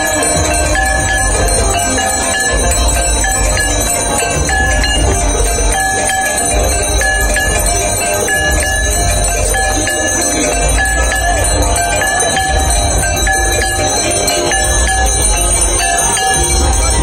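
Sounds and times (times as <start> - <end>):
hand bells clanging: 0.0 - 17.0.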